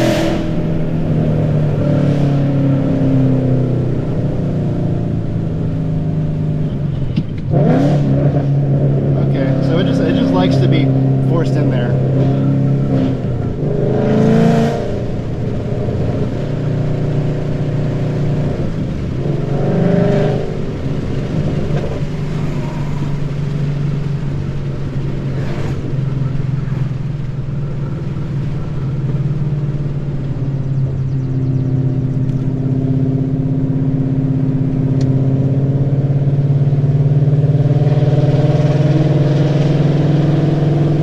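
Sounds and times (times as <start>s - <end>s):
car exhaust drone with throttle surges: 0.0s - 41.0s.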